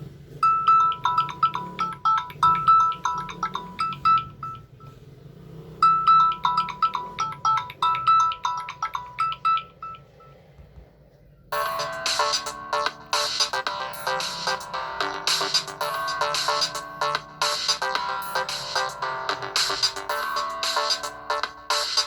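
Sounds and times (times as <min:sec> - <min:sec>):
phone ringtone melody: 0:00.4 - 0:05.0, 0:05.8 - 0:10.5, 0:11.5 - 0:22.0.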